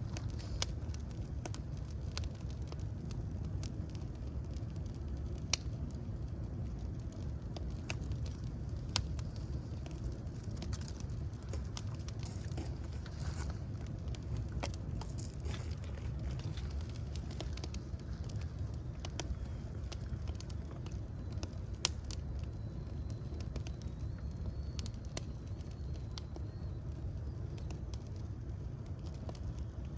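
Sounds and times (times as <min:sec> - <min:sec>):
fire crackling and popping: 0:00.0 - 0:29.9.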